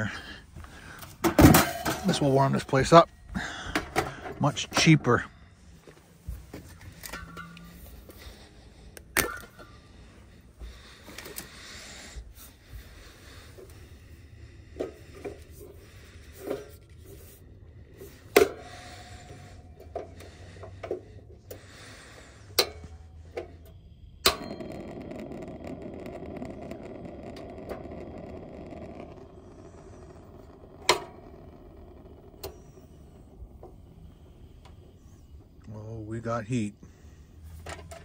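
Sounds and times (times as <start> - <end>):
steady hiss of gas burning: 0.0 - 38.0.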